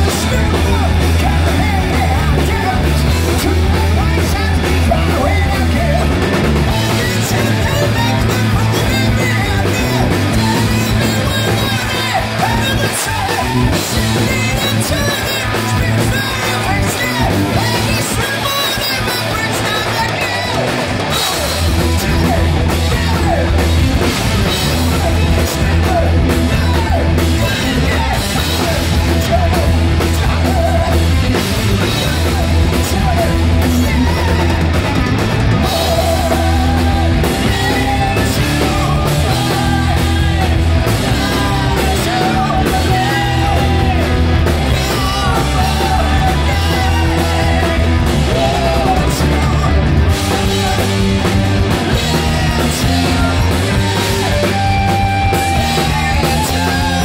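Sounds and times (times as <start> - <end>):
live rock band playing: 0.0 - 57.0
person singing into a microphone: 0.0 - 57.0.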